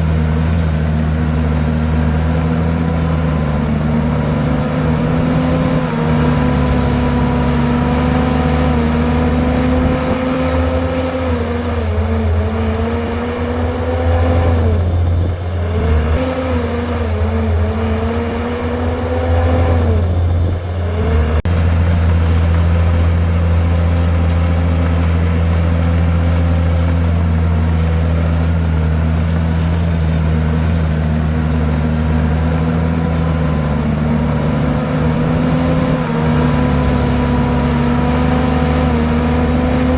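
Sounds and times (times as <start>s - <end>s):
bulldozer diesel engine humming: 0.0s - 39.9s.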